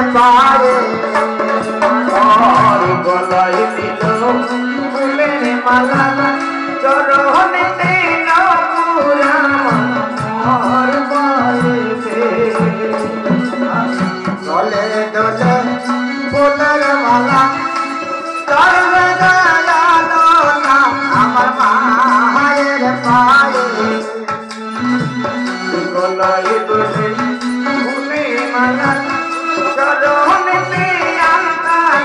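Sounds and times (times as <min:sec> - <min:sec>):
person singing: 0:00.0 - 0:32.0.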